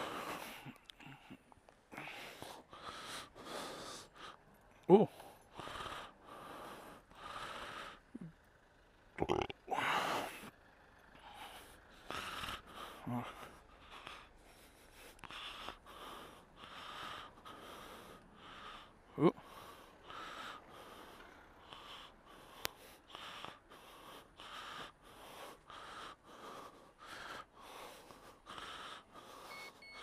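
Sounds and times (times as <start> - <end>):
person breathing: 0.0 - 9.0, 9.7 - 30.0.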